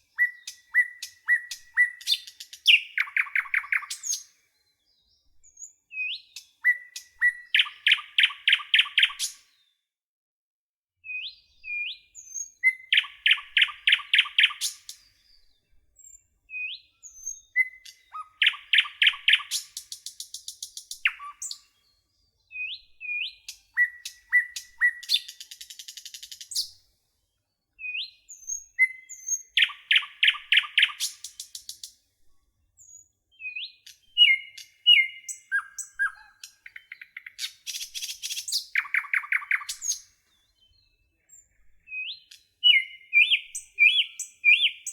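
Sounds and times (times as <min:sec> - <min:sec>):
nightingale singing: 0:00.0 - 0:09.5, 0:11.0 - 0:26.8, 0:27.7 - 0:32.0, 0:32.8 - 0:44.9.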